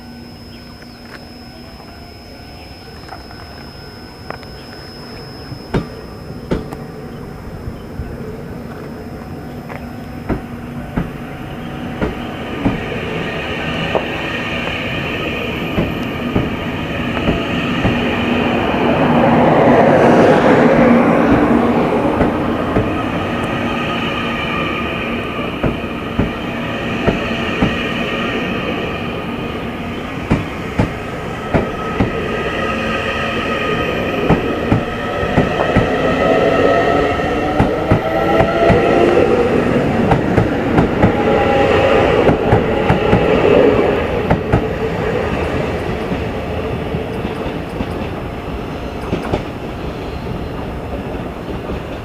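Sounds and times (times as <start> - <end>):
pitch-shifting whine: 0.0 - 46.8
train rail rumble: 0.0 - 52.0.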